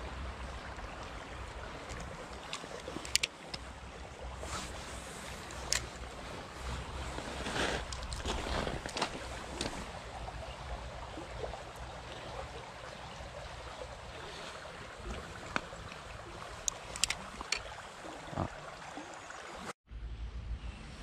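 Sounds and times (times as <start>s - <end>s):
stream water running: 0.0s - 19.8s.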